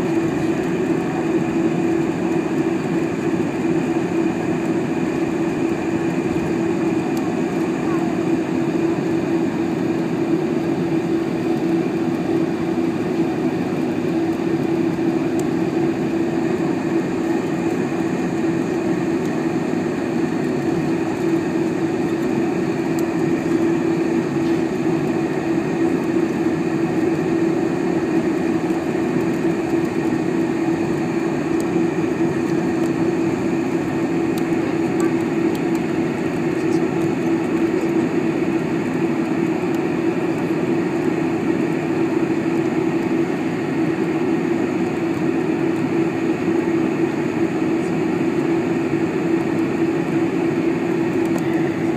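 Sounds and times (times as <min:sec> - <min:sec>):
airplane cabin engine drone: 0:00.0 - 0:51.9.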